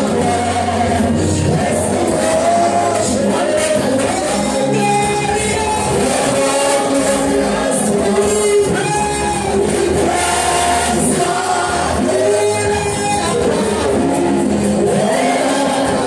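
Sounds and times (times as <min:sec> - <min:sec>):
choir singing gospel: 0:00.0 - 0:16.0
musical accompaniment: 0:00.0 - 0:16.0.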